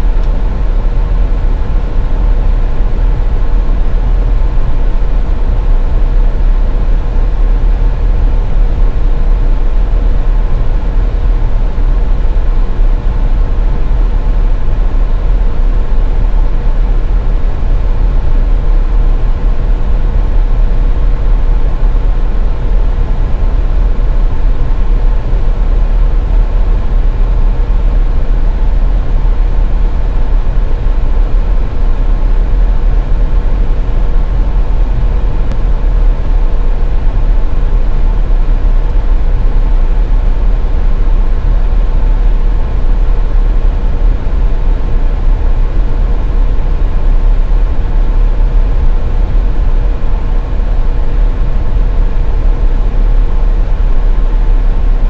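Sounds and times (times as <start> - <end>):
car tyres and engine rumble: 0.0 - 55.0
faint constant hum: 0.0 - 55.0.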